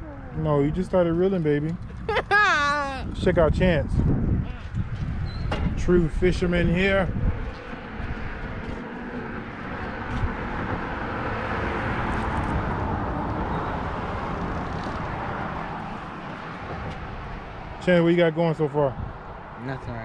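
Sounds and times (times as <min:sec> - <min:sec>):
vehicle passing on highway: 0:03.9 - 0:20.0.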